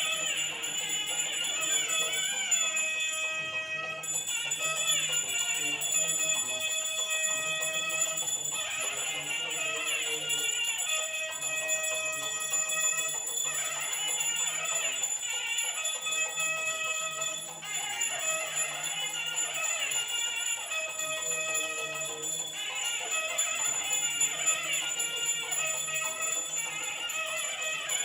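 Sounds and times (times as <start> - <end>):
hand bell ringing: 0.0 - 28.0.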